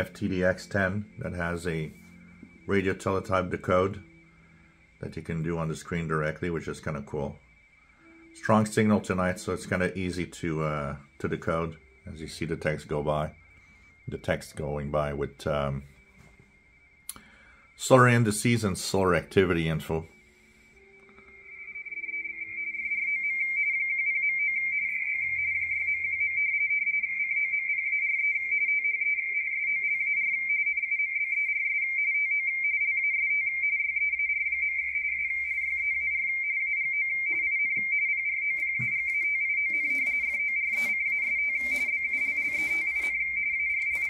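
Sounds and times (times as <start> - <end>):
two-tone radio data warble: 0.0 - 32.4, 38.4 - 44.0.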